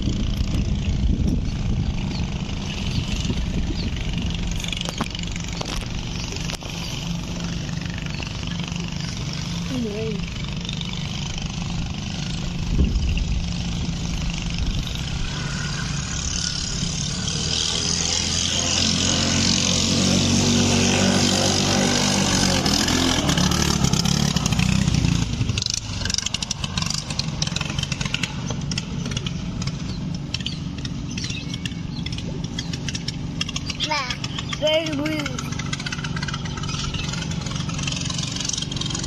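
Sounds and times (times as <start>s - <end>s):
racing boat engine at full throttle: 0.0s - 39.0s.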